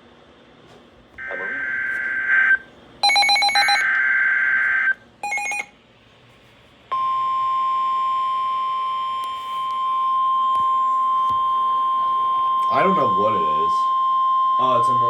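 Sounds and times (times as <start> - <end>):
steady warning alarm tone: 1.2 - 5.7, 6.9 - 15.0.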